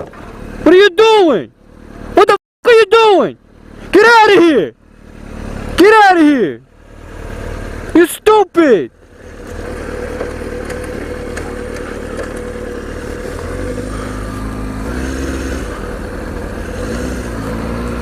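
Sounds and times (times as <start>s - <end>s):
motorcycle engine at low revs: 0.0s - 2.3s, 3.4s - 18.0s.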